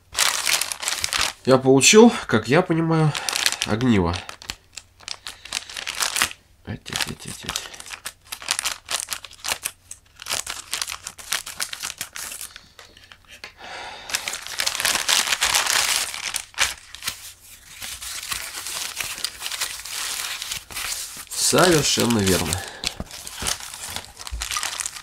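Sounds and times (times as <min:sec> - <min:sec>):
foam wrapping handled: 0:00.0 - 0:01.5, 0:03.1 - 0:13.4, 0:14.1 - 0:25.0
plastic bag crinkling: 0:00.0 - 0:01.5, 0:03.0 - 0:13.4, 0:14.0 - 0:25.0.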